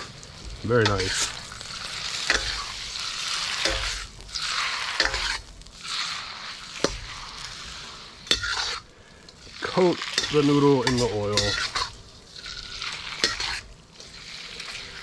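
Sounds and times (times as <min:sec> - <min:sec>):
noodles sizzling in a wok: 0:00.0 - 0:15.0.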